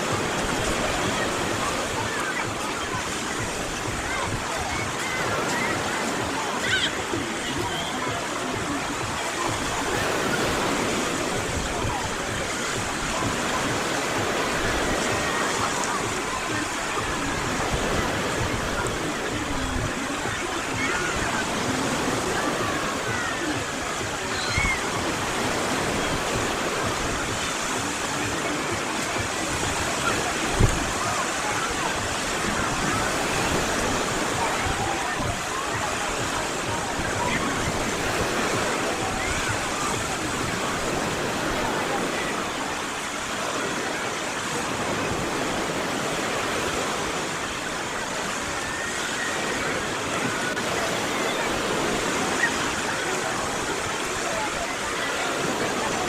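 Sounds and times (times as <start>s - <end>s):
small waves breaking ashore: 0.0s - 56.0s
surf washing onto beach: 0.0s - 56.0s.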